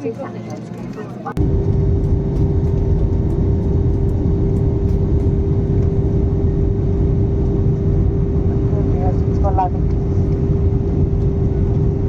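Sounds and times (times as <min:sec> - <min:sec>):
airliner cabin rumble: 0:01.3 - 0:12.0
droning hum: 0:01.3 - 0:12.0.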